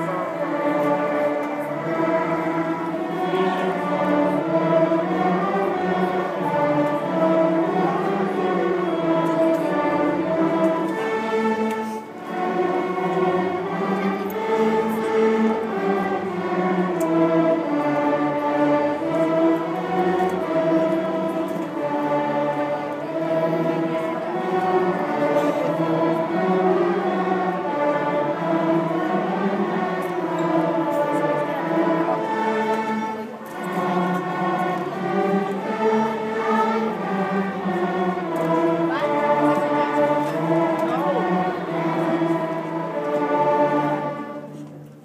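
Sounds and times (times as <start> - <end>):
string orchestra sustained notes: 0.0 - 45.0.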